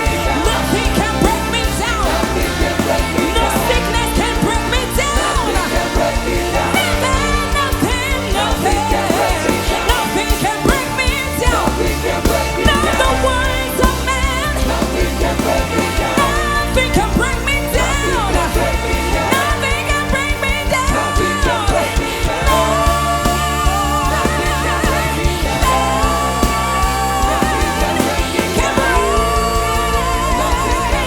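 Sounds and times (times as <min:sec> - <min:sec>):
music with ornamented singing: 0:00.0 - 0:31.0.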